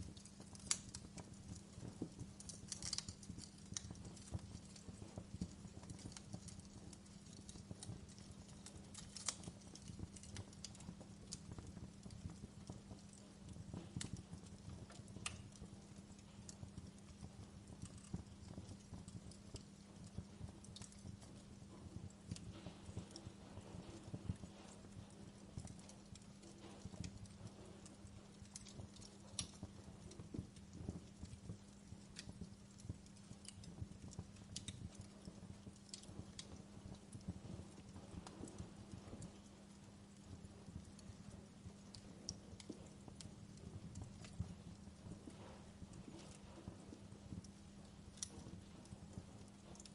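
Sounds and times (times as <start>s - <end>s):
low steady hum: 0.0s - 49.9s
wood fire crackling: 0.0s - 49.9s.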